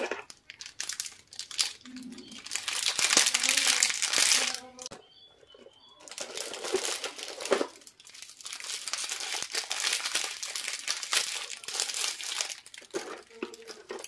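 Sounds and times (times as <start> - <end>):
plastic wrappers crinkling: 0.0 - 14.0.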